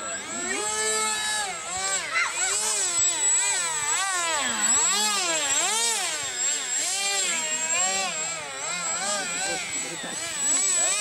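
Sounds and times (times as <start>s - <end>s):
model jet motor whining: 0.0s - 11.0s.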